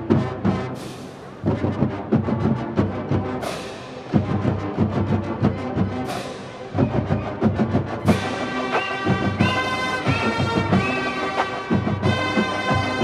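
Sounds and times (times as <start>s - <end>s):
marching band held chords: 0.0s - 13.0s.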